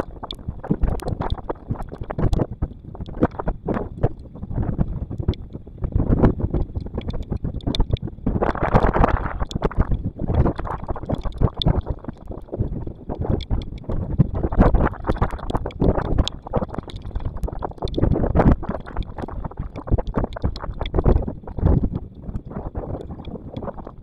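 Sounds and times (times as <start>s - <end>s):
raindrops ticking on camera housing: 0.0s - 4.2s, 6.2s - 24.0s
wind buffeting microphone: 0.0s - 24.0s.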